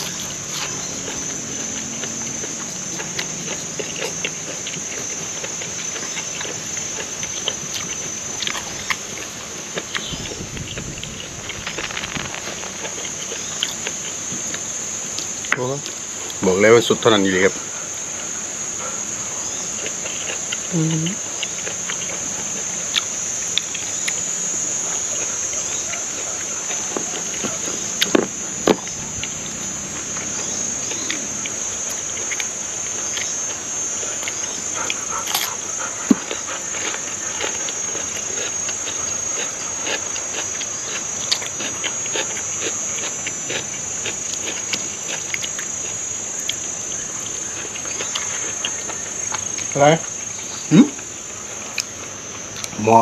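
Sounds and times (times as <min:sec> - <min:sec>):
person chewing food: 0:00.0 - 0:16.4, 0:18.8 - 0:52.8
high-pitched insect chorus: 0:00.0 - 0:53.0.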